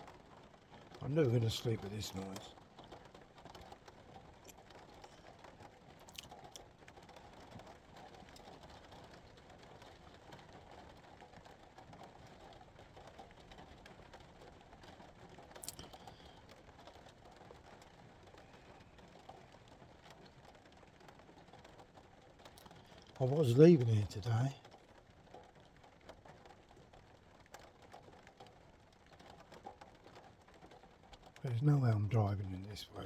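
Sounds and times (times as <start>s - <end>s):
rain on roof: 0.0s - 33.0s.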